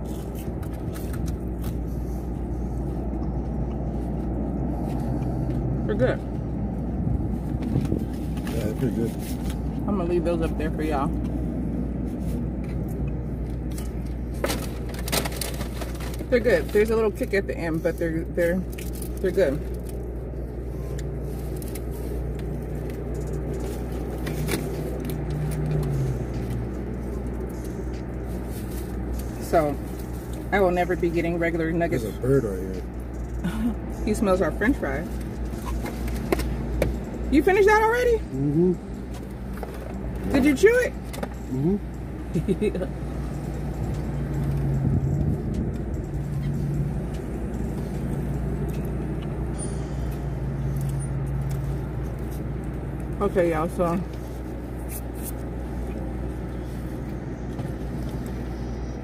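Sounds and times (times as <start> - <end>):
people chewing and handling food: 0.0 - 9.8, 10.8 - 34.0, 34.7 - 37.0, 38.3 - 59.0
low car cabin hum: 0.0 - 59.0.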